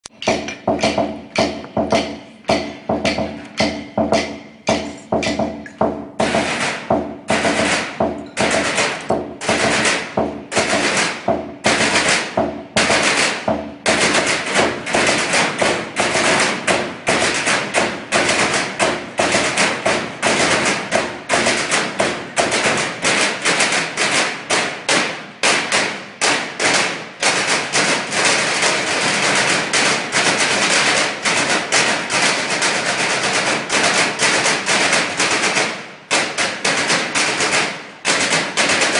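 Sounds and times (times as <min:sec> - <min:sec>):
drumming on metal trash cans: 0:00.1 - 0:38.9.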